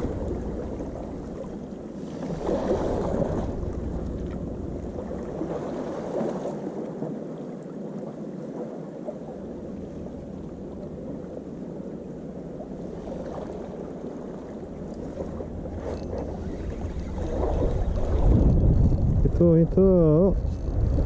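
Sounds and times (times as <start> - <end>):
seawater sloshing among concrete blocks: 0.0 - 21.0.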